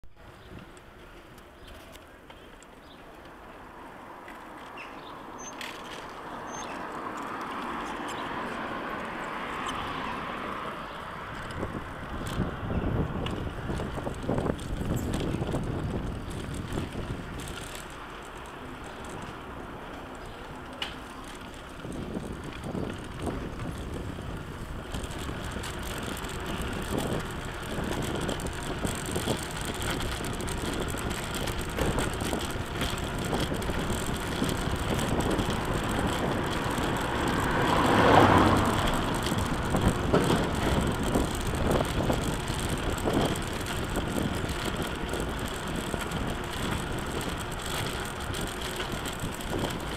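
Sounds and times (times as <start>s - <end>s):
tyres rumbling on cobblestones: 0.1s - 49.9s.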